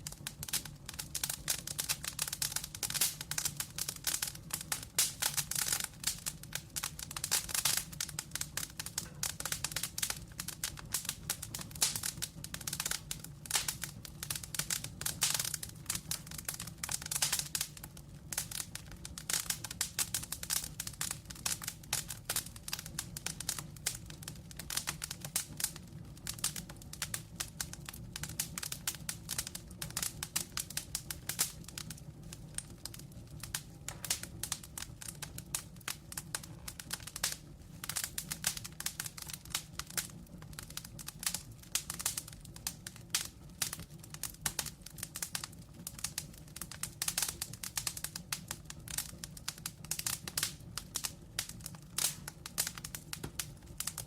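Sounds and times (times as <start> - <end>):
logs crackling in a fireplace: 0.0 - 54.0.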